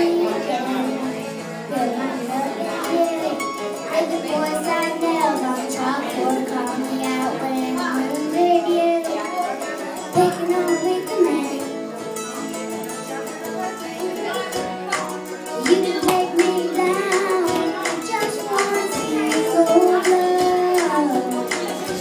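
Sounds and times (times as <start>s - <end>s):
backing track over loudspeakers: 0.0s - 22.0s
girl singing karaoke: 0.0s - 22.0s.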